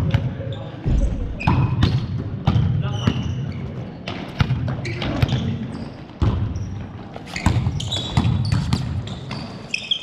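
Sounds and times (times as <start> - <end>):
sneaker squeak: 0.0 - 10.0.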